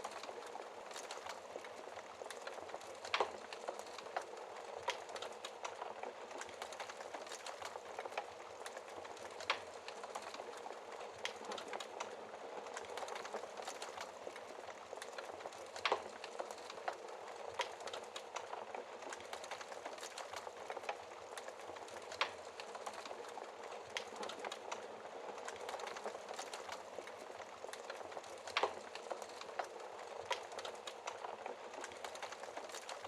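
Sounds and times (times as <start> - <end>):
fire crackling in fireplace: 0.0 - 33.0.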